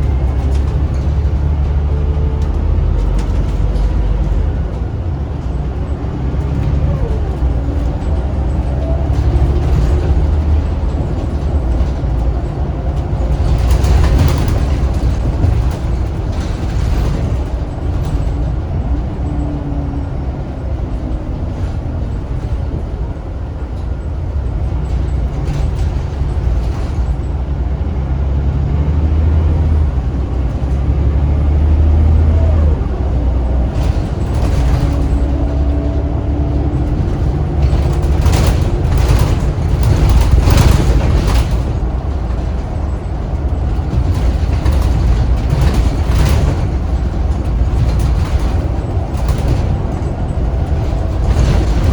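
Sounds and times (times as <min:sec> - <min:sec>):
short rattles: 0:00.0 - 0:28.7, 0:32.4 - 0:51.9
bus diesel engine drone: 0:00.0 - 0:51.9.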